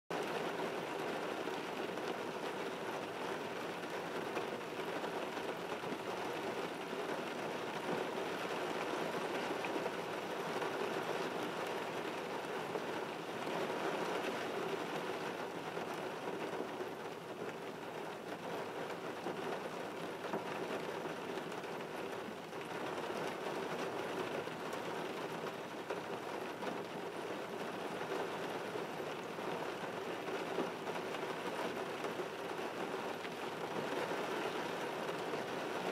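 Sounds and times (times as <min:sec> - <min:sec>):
rain on car windshield: 0:00.1 - 0:35.9.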